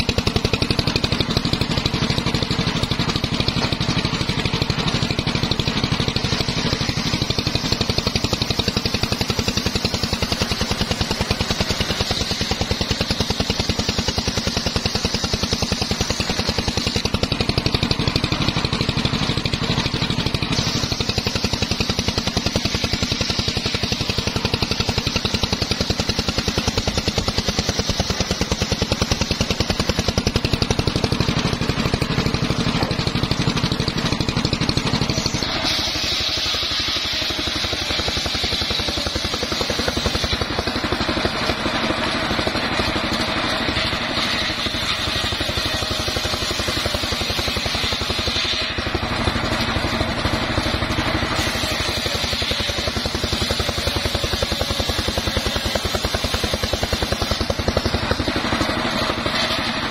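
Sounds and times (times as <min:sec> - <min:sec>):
engine running: 0:00.0 - 0:59.9
saw blade ripping wood: 0:00.0 - 0:59.9.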